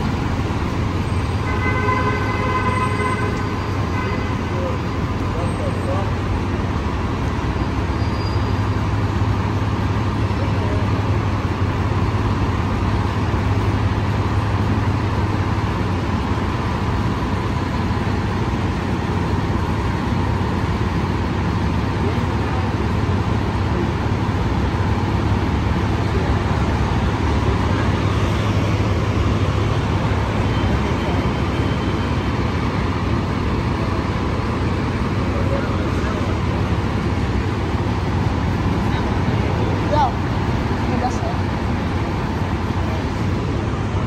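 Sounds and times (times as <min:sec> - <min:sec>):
bus engines: 0:00.0 - 0:44.0
road traffic rumble: 0:00.0 - 0:44.0.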